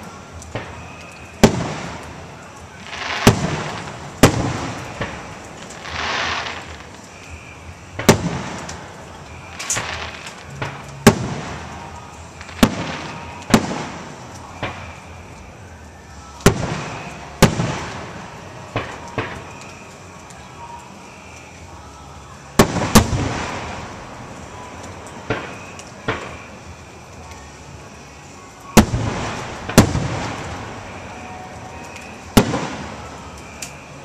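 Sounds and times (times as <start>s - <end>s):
fireworks bangs echoing: 0.0s - 15.3s, 16.4s - 19.9s, 22.6s - 26.7s, 28.7s - 33.9s.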